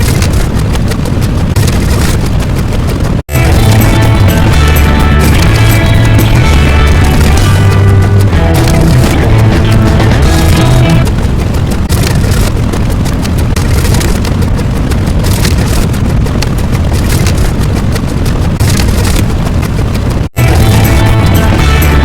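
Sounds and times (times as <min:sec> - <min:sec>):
loud rumbling with crackle: 0:00.0 - 0:22.0.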